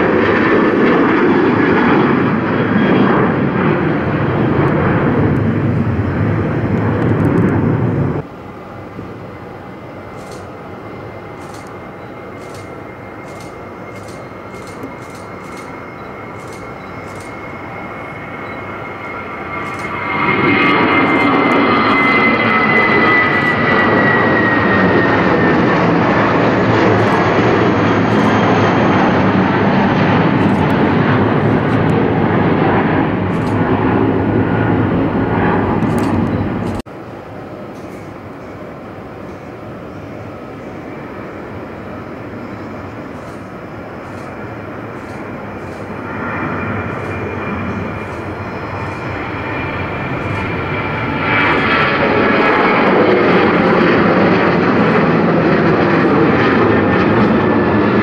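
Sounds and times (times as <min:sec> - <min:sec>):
high jet engine whine: 0:00.0 - 0:58.0
jet engine noise: 0:00.0 - 0:58.0.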